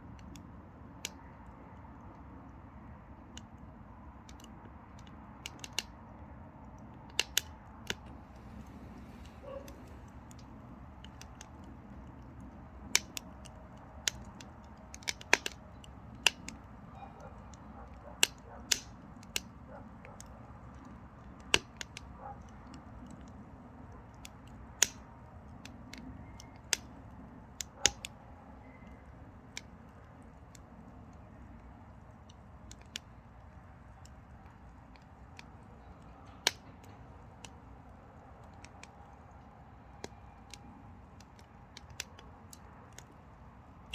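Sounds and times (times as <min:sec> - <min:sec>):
low rumble of fire: 0:00.0 - 0:43.9
firewood crackling and popping: 0:03.2 - 0:43.9.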